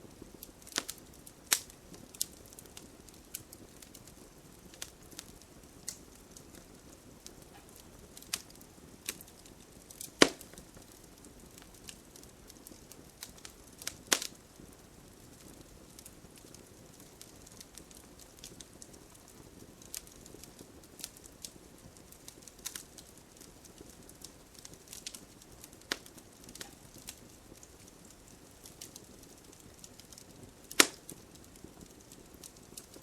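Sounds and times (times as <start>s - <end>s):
campfire crackling and popping: 0.0s - 33.0s
low hiss of flames: 0.0s - 33.0s.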